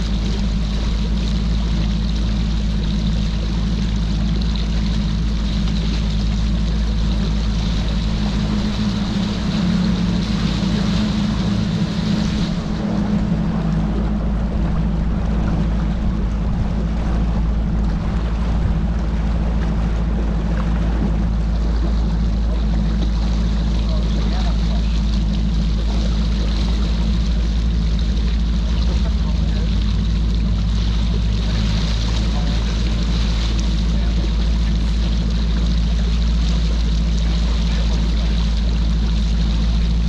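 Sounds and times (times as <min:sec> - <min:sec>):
outboard motor humming: 0:00.0 - 0:40.0.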